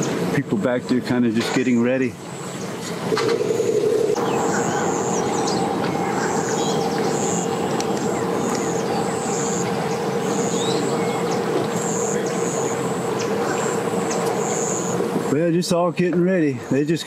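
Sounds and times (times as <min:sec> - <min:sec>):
engine droning: 0:00.0 - 0:16.8
birds chirping: 0:00.0 - 0:17.0.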